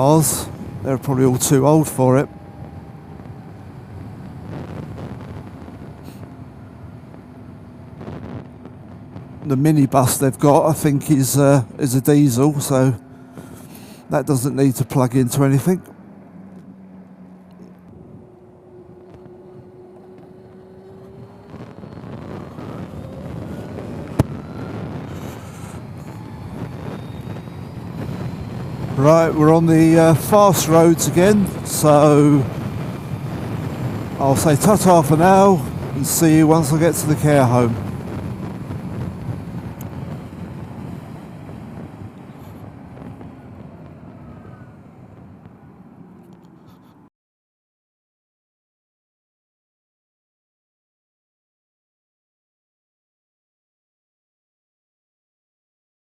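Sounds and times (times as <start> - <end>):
electric motorcycle whine: 0.0 - 46.6
wind and road noise: 0.0 - 47.1.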